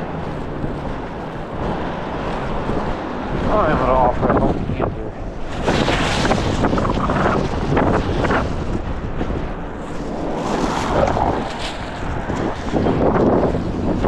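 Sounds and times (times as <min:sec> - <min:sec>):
strong gusty wind on microphone: 0:00.0 - 0:14.0.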